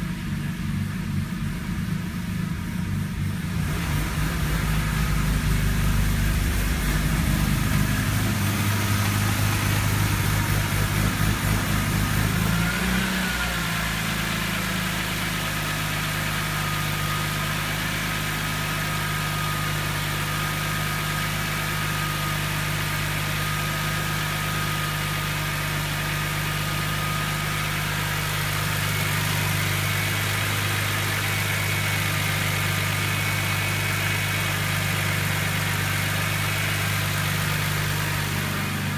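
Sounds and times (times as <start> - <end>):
engine idling roughly: 0.0 - 38.9.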